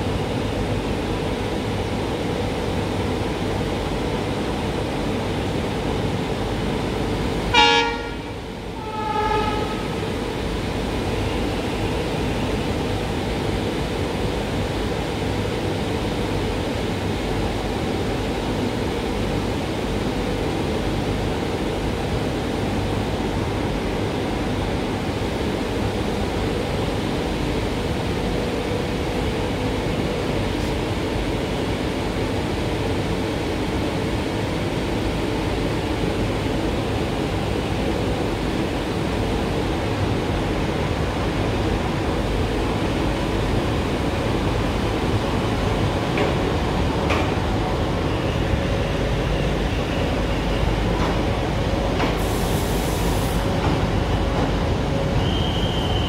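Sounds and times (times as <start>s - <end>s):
diesel locomotive engines rumbling: 0.0s - 56.0s.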